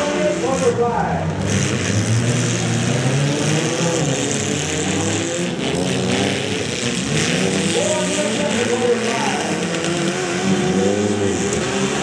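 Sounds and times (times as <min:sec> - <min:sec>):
small car engines revving: 0:00.0 - 0:12.0.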